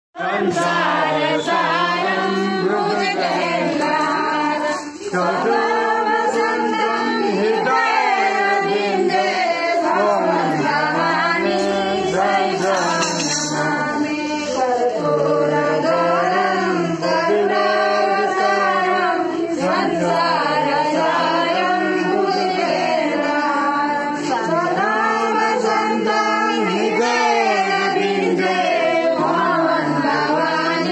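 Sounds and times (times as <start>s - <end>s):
women singing a devotional song: 0.2s - 30.9s.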